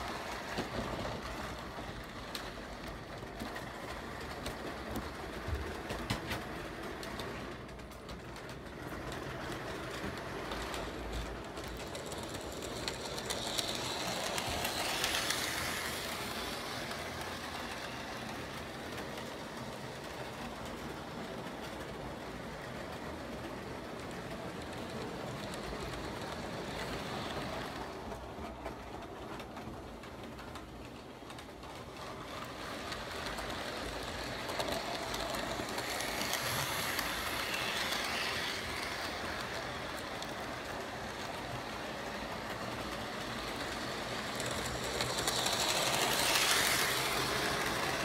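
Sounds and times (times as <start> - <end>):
model train rolling and whirring: 0.0 - 48.0.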